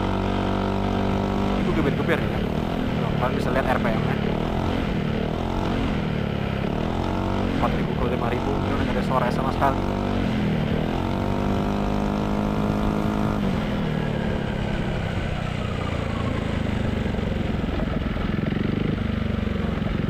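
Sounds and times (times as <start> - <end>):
scooter engine revving: 0.0 - 20.0.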